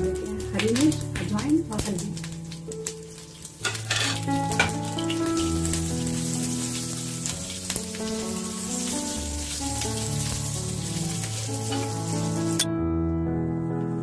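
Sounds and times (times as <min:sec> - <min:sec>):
spices sizzling in oil: 0:00.0 - 0:12.7
background music: 0:00.0 - 0:14.0.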